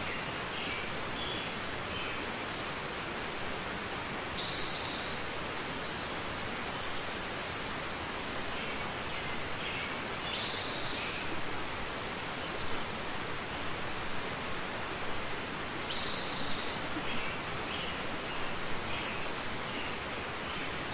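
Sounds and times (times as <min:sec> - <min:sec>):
steady hiss: 0:00.0 - 0:20.9.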